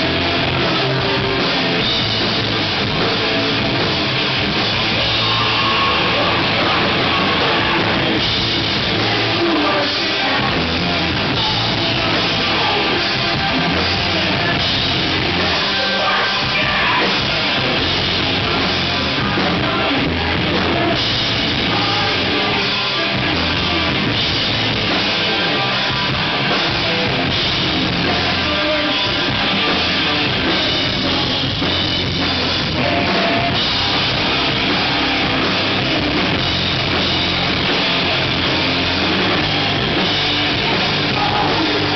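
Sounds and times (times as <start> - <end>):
bass guitar: 0.0 - 41.9
drum kit: 0.0 - 41.9
electric guitar: 0.0 - 41.9
person singing: 4.7 - 41.9.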